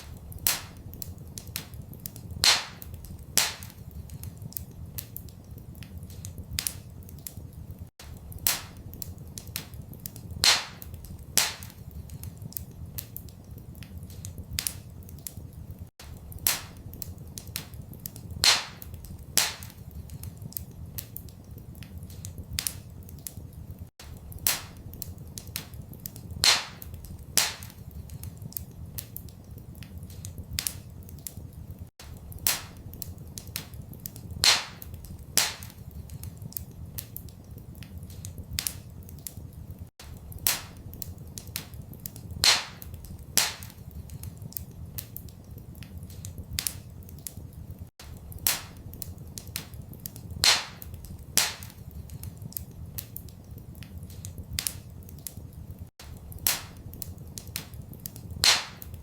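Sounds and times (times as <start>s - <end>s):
low rumble of fire: 0.0s - 59.0s
wood fire crackling and popping: 0.0s - 59.0s.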